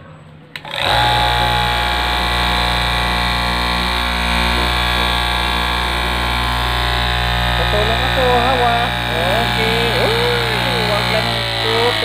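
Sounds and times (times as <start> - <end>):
cloth cutting machine humming: 0.5 - 12.0.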